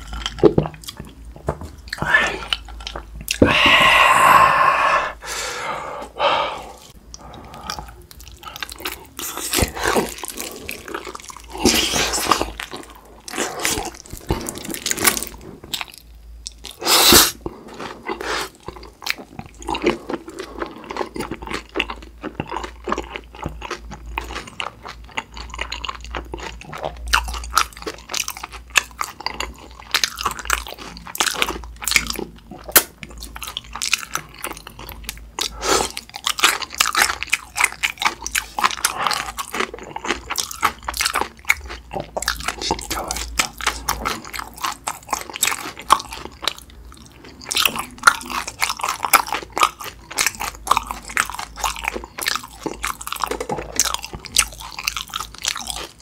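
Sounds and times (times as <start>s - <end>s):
chewing fried chicken: 0.0s - 3.5s, 7.1s - 56.0s.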